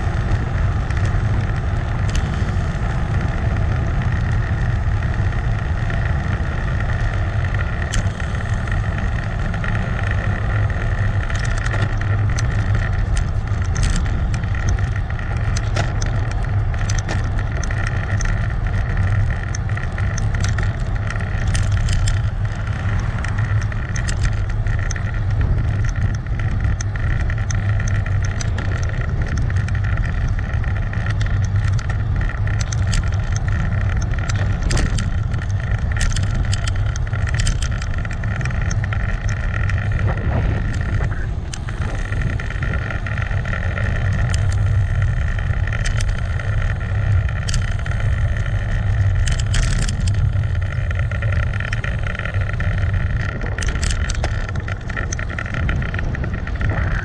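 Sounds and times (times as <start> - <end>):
small sharp clicks or rattles: 0.0 - 57.0
wind and road rumble: 0.0 - 57.0.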